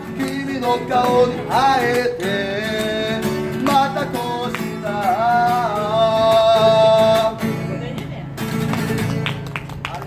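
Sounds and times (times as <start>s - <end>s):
strummed acoustic guitar: 0.0s - 9.8s.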